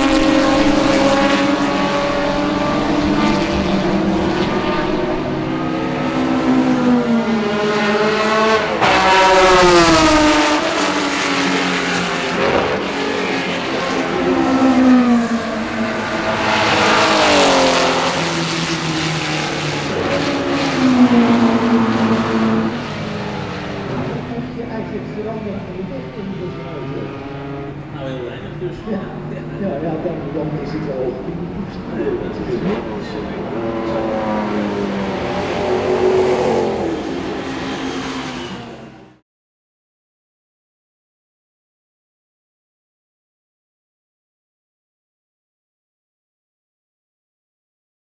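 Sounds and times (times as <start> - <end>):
race car engines revving: 0.0 - 39.2.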